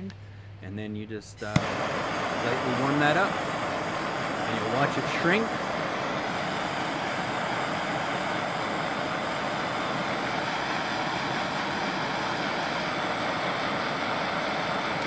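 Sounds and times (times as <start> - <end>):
gas torch flame hissing: 1.4 - 15.0.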